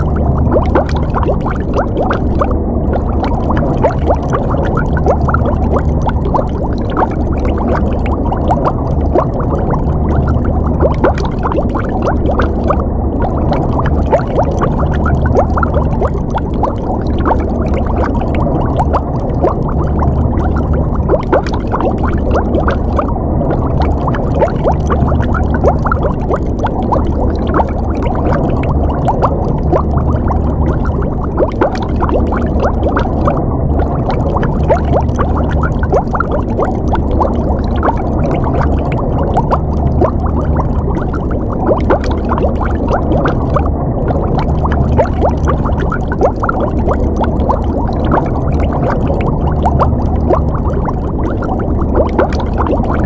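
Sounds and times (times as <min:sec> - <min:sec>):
steady low rumble: 0:00.0 - 0:53.0
underwater bubbling and gurgling: 0:00.0 - 0:53.0.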